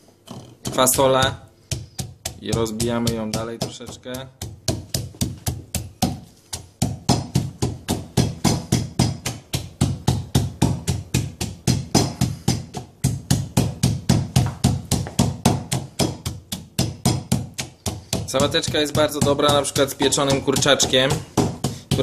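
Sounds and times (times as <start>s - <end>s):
wooden pestle pounding in mortar: 0.6s - 22.0s.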